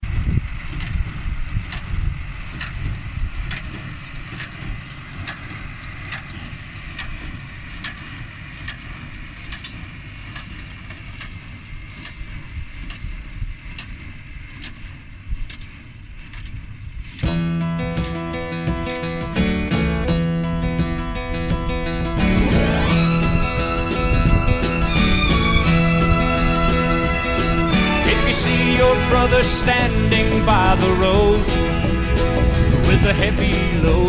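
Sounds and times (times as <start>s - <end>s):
tractor engine rumble: 0.0s - 34.0s.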